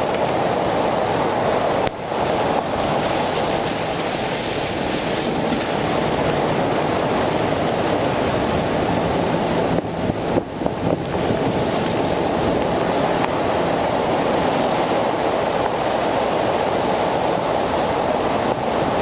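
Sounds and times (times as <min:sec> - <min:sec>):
wet road noise: 0:00.0 - 0:19.0.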